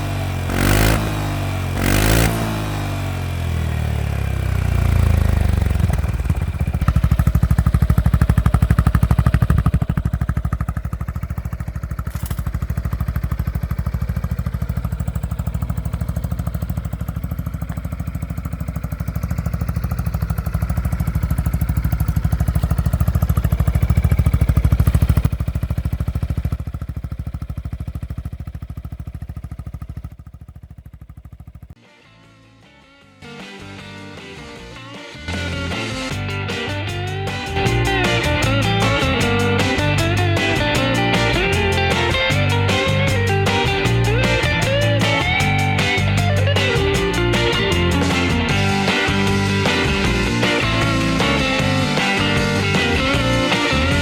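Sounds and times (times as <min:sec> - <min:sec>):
scooter engine revving: 0:00.0 - 0:31.8, 0:35.3 - 0:54.0.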